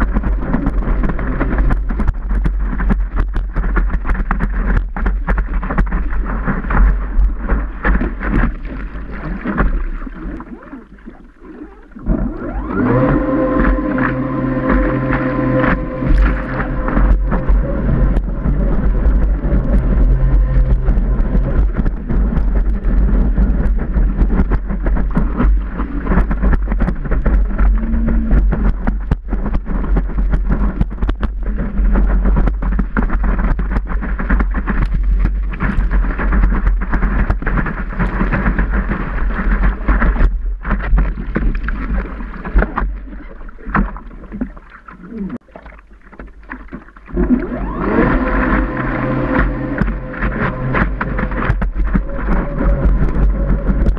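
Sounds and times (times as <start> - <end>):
wind buffeting microphone: 0.0 - 45.4, 47.0 - 53.9
water rushing and spraying: 0.0 - 53.9.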